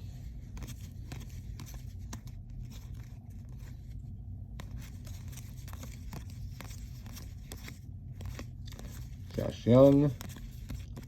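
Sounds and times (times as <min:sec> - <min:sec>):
cards being shuffled: 0:00.0 - 0:11.0
steady low hum: 0:00.0 - 0:11.0.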